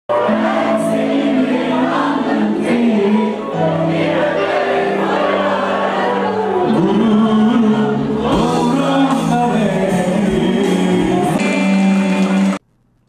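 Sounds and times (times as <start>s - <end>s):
crowd singing along: 0.1s - 12.6s
live pop concert music: 0.1s - 12.6s.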